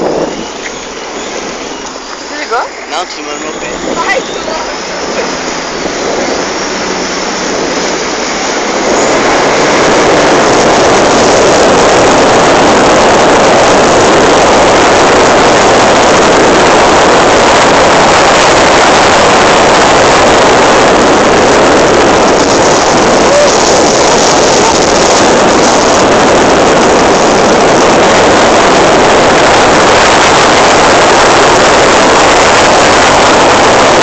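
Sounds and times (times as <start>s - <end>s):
rushing water: 0.0s - 34.0s
wind on microphone: 0.0s - 34.0s.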